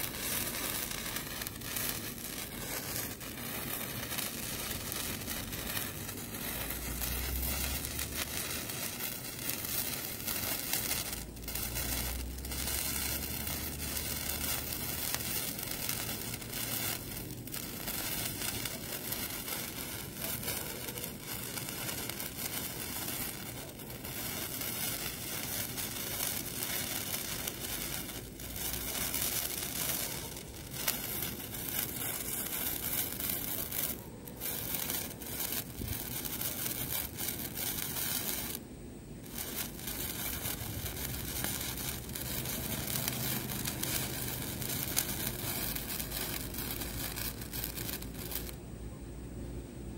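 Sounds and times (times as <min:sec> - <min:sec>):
sparklers crackling hiss: 0:00.0 - 0:48.6.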